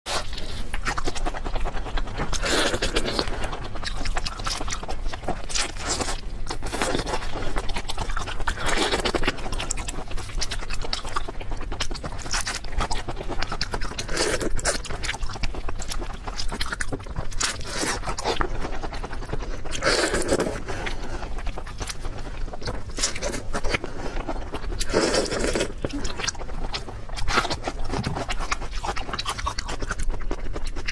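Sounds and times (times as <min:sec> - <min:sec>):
shells crackling being chewed: 0:00.1 - 0:30.9.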